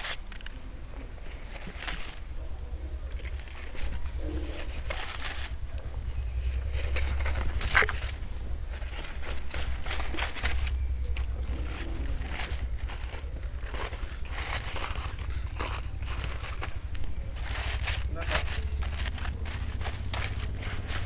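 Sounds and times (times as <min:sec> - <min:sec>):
dry leaves tearing: 0:00.0 - 0:00.6, 0:01.2 - 0:02.2, 0:03.0 - 0:21.0
aluminium foil crinkling: 0:00.0 - 0:02.3, 0:03.0 - 0:21.0.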